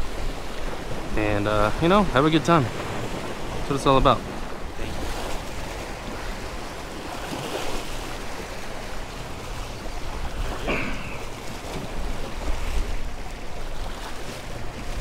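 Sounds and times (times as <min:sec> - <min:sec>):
waves splashing against rocks: 0:00.0 - 0:15.0
wind buffeting microphone: 0:00.0 - 0:15.0.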